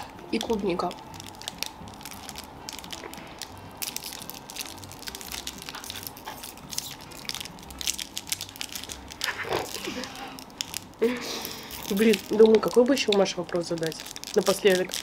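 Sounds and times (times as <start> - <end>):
candies being chewed and crunched: 0.0 - 15.0
plastic wrappers crinkling: 0.0 - 15.0.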